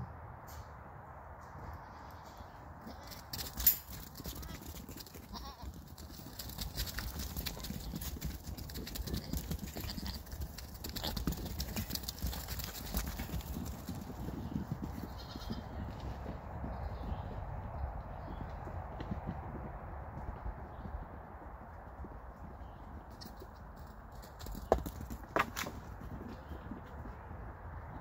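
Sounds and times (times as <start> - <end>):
goat hooves pattering on dirt: 1.4 - 28.0.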